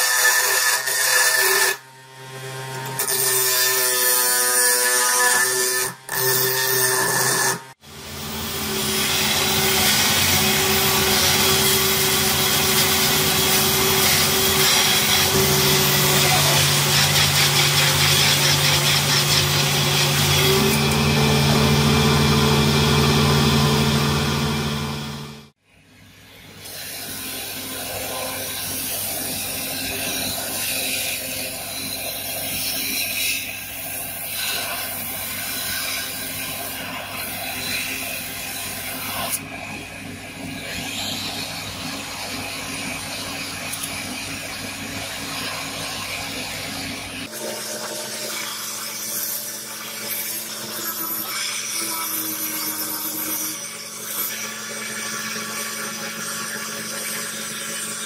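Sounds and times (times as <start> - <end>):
belt grinder grinding steel: 0.0 - 25.6, 26.6 - 58.0.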